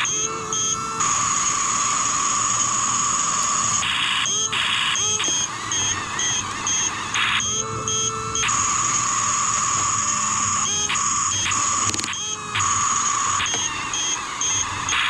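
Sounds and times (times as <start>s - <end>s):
electronic whine and hiss: 0.0s - 15.0s.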